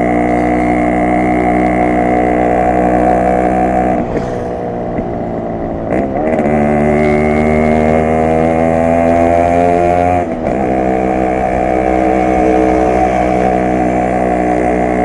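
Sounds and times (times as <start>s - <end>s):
two-stroke motorcycle engine: 0.0s - 15.0s.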